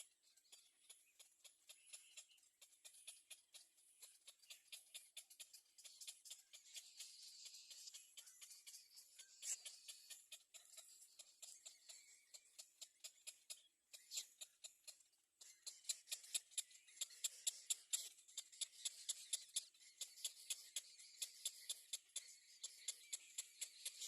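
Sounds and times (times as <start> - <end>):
sunbirds chirping: 0.0 - 24.0.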